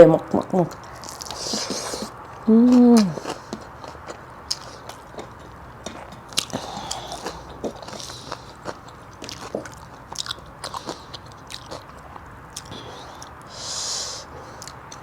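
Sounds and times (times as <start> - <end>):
person chewing: 0.4 - 15.0.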